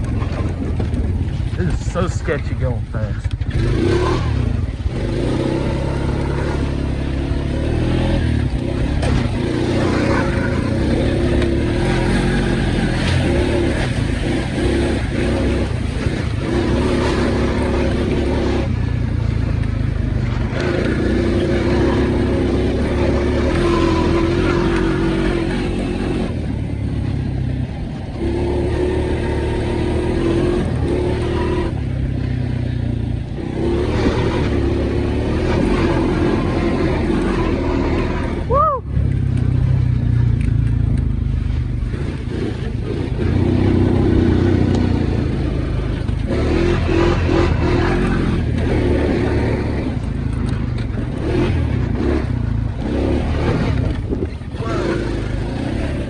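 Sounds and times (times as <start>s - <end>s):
four-wheeler engine running hard: 0.0s - 56.0s.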